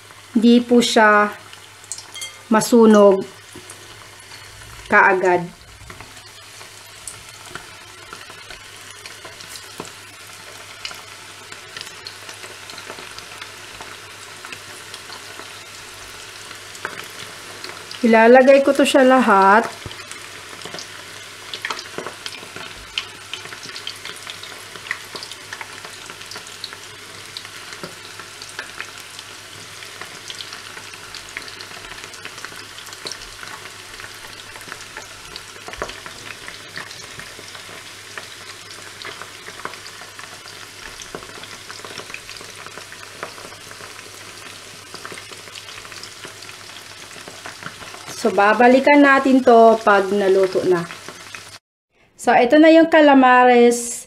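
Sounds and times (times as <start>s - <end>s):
food deep-frying in hot oil: 0.0s - 51.6s.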